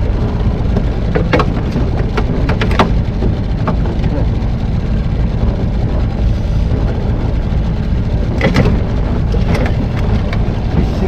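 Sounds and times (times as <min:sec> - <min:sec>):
outboard motor droning: 0:00.0 - 0:11.0.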